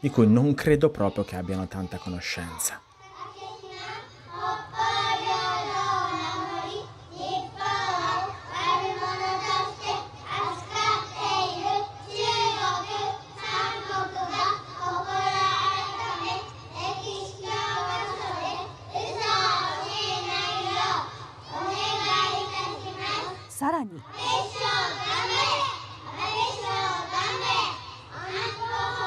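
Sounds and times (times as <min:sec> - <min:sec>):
children chanting in unison: 0:00.6 - 0:29.0.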